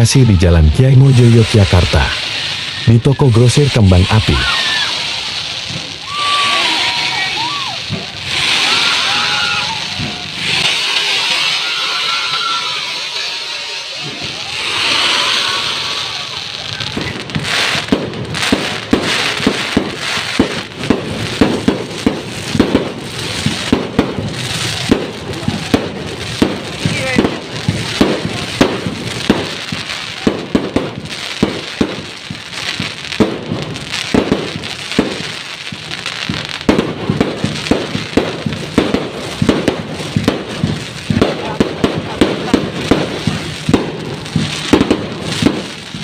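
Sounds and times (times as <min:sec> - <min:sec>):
fireworks banging: 0:00.0 - 0:46.0.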